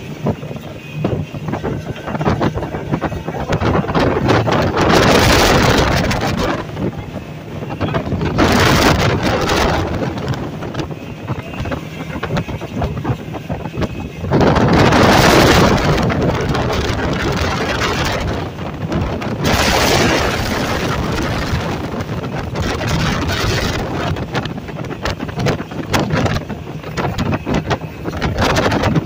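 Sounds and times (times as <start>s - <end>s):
boat engine drone: 0.0s - 29.0s
wind buffeting microphone: 0.0s - 29.0s.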